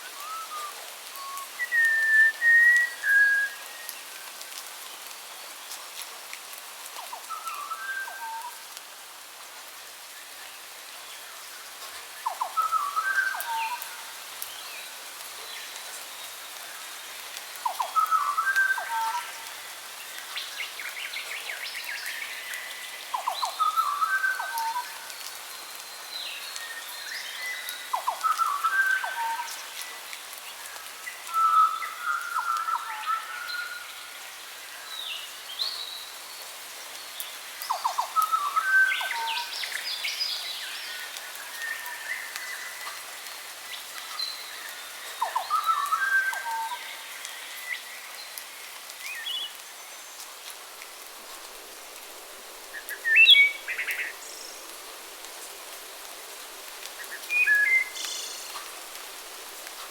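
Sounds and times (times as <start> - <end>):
steady hiss: 0.0 - 59.9
songbirds singing and calling: 10.2 - 51.8, 52.6 - 59.9.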